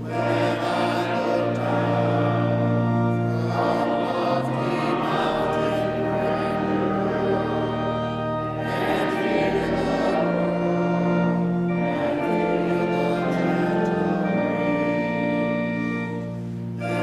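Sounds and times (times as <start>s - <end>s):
church singing: 0.0s - 17.0s
sustained chords: 0.0s - 17.0s.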